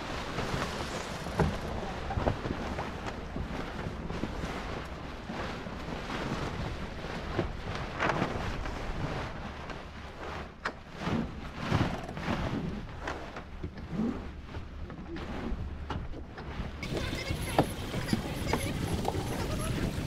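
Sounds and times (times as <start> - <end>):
wind buffeting microphone: 0.0 - 9.6, 11.2 - 20.0
water rushing along hull: 0.0 - 20.0.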